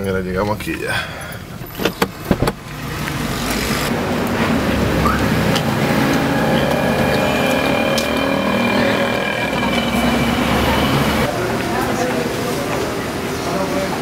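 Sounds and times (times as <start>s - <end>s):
road traffic rumble: 0.9s - 14.0s.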